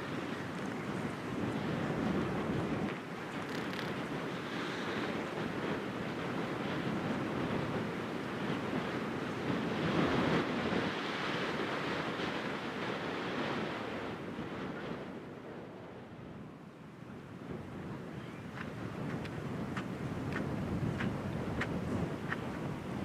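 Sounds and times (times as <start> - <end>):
small waves washing ashore: 0.0 - 15.4, 17.2 - 23.0.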